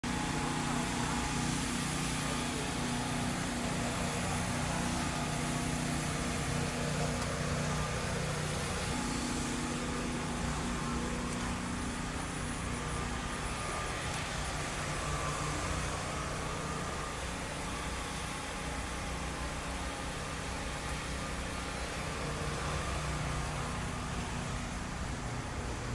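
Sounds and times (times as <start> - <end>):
outdoor background noise: 0.0 - 25.9
vehicle engine humming: 0.0 - 25.9.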